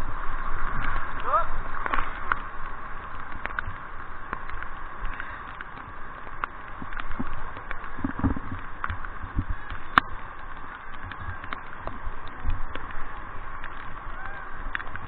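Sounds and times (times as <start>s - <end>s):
river water rushing and splashing: 0.0s - 15.0s.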